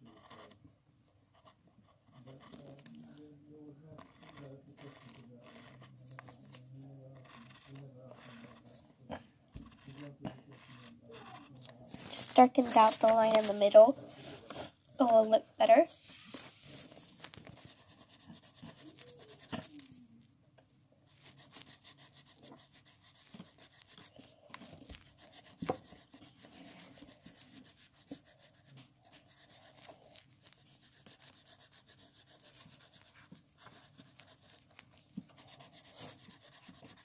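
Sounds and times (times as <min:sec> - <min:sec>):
pencil scratching on paper: 0:00.0 - 0:00.6, 0:01.3 - 0:20.0, 0:21.1 - 0:37.0.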